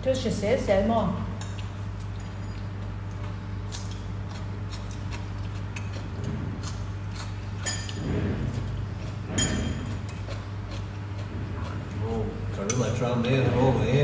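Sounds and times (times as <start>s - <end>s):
steady low hum: 0.0s - 14.0s
utensils clinking against dishes: 1.4s - 14.0s.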